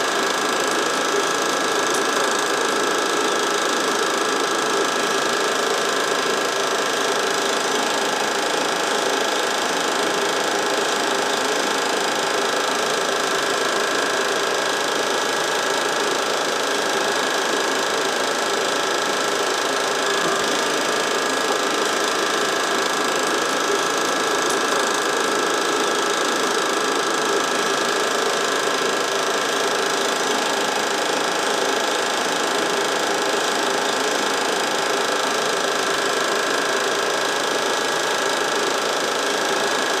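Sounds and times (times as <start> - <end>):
film projector whirring: 0.0 - 40.0.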